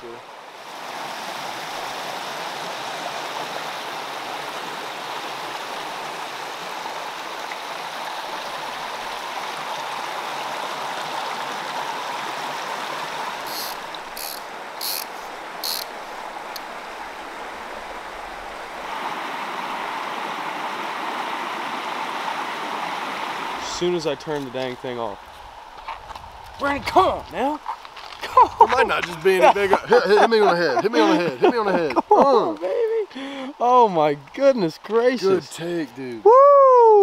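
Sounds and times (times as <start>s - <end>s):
stream rushing over rocks: 0.0s - 37.0s.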